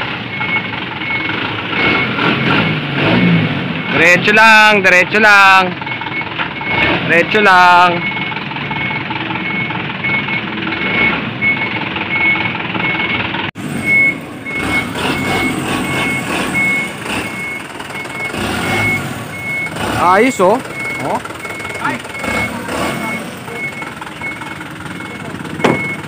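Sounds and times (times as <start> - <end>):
diesel engine running: 0.0 - 26.0
truck reversing alarm beeping: 0.0 - 26.0.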